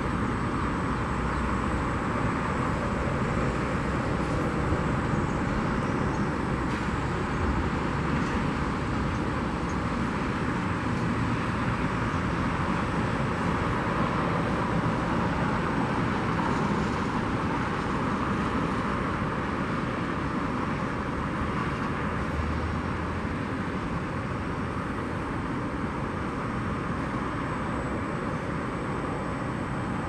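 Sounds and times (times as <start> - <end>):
jet engine noise: 0.0 - 30.0.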